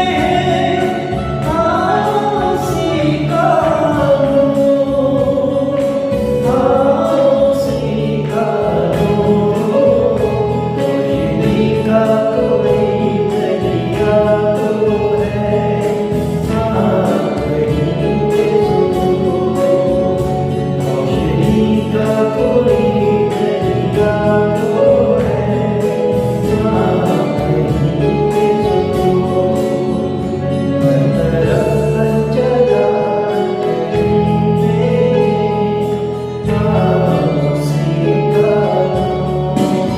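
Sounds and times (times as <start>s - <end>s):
group of voices singing: 0.0s - 39.9s
instrumental accompaniment with beat: 0.0s - 39.9s.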